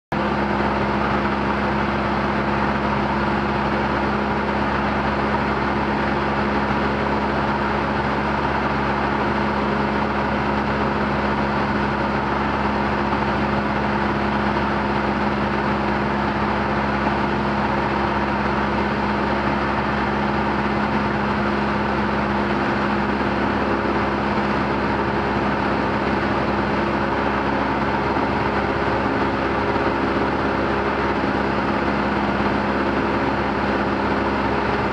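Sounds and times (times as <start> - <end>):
propeller aircraft engine droning: 0.1 - 34.9.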